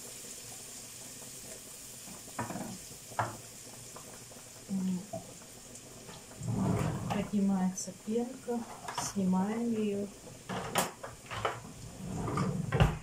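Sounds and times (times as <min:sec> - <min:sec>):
food sizzling in a frying pan: 0:00.0 - 0:12.4.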